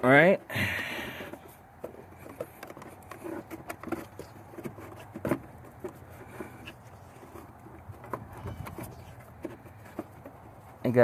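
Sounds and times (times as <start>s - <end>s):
paper filter scraping and rustling: 2.0s - 10.9s.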